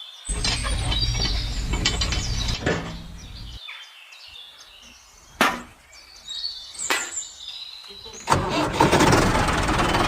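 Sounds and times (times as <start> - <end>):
birds chirping faintly: 0.0 - 8.4.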